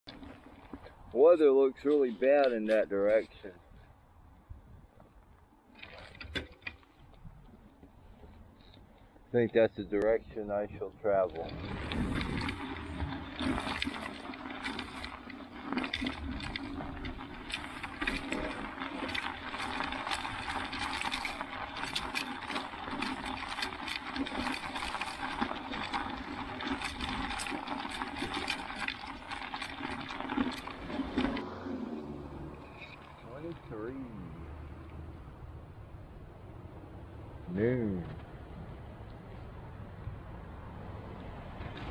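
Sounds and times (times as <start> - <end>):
bicycle tires crunching snow: 0.1 - 36.6, 37.6 - 41.9.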